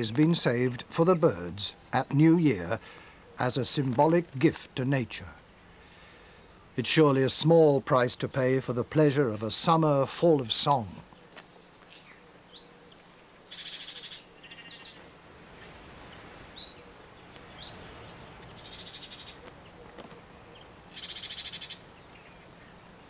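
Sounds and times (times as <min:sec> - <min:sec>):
songbirds twittering and trilling: 0:00.0 - 0:23.0.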